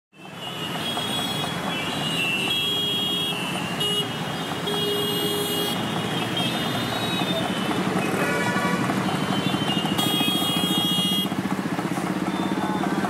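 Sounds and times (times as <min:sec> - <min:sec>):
road traffic: 0:00.1 - 0:13.0
vehicle horns honking: 0:00.2 - 0:11.4.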